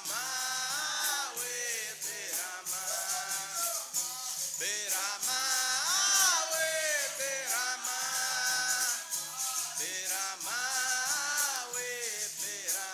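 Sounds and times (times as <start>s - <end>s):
shaker rattling: 0.0s - 12.9s
voices singing: 0.0s - 12.9s.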